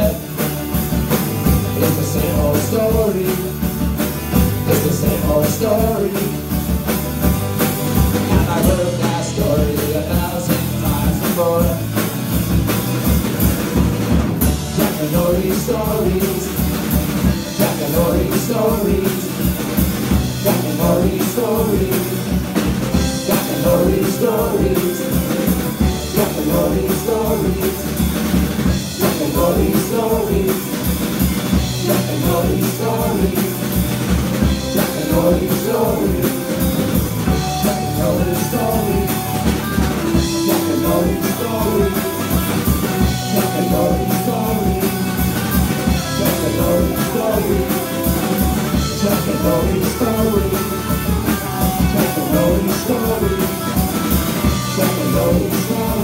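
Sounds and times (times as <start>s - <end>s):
live band playing a song: 0.0s - 56.0s.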